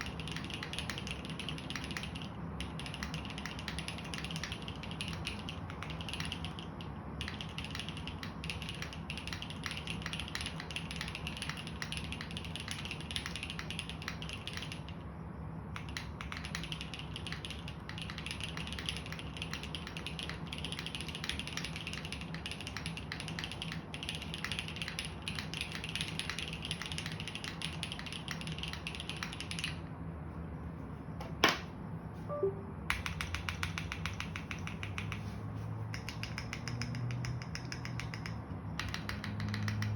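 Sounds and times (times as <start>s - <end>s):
sharp loud keyboard click: 0.0s - 15.0s, 15.7s - 29.8s, 32.9s - 35.3s, 35.9s - 39.9s
fast typing on mechanical keyboard: 0.0s - 15.1s, 15.7s - 29.8s, 32.9s - 39.9s.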